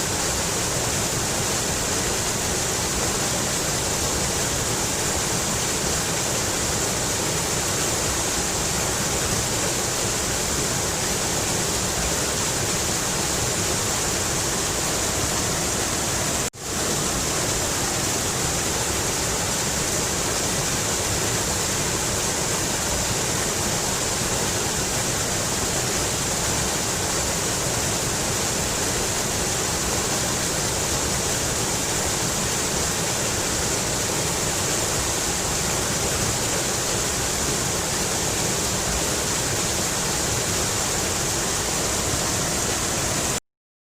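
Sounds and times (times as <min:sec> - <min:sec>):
river water rushing: 0:00.0 - 0:43.4.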